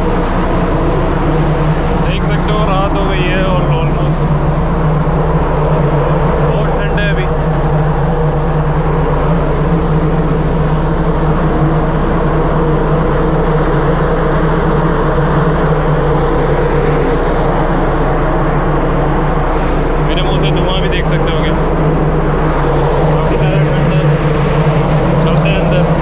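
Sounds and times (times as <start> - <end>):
ship machinery droning: 0.0 - 26.0.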